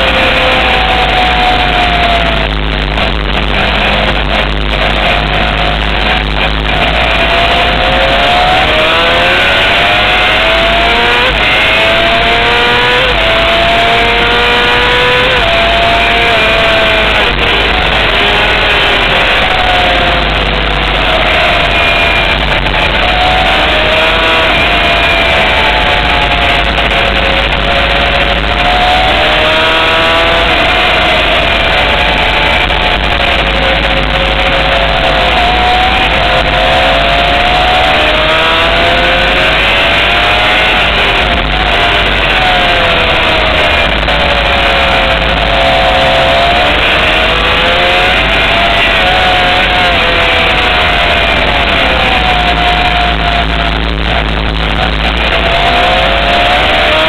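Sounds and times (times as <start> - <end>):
motorcycle engine revving hard: 0.0 - 57.0
wind rush: 0.0 - 57.0.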